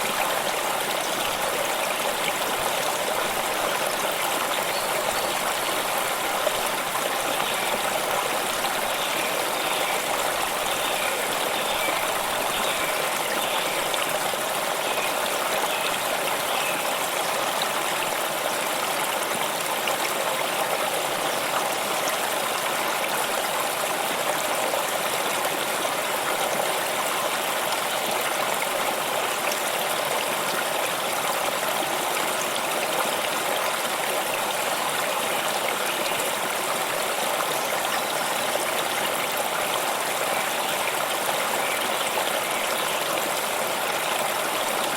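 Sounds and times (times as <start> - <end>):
stream babbling over stones: 0.0 - 44.9.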